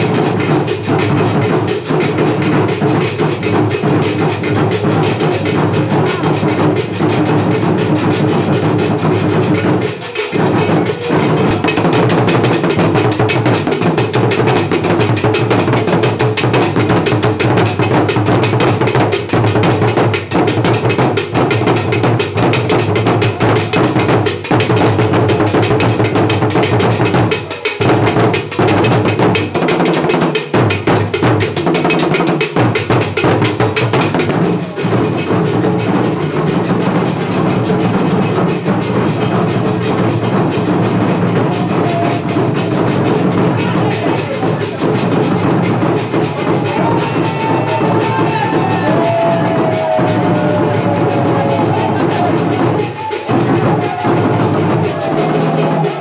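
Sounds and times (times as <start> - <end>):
drum ensemble playing: 0.0 - 56.0.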